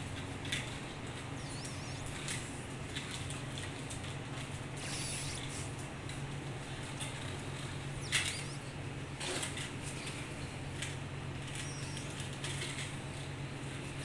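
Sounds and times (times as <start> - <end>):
claws pattering on tiles: 0.0 - 14.0.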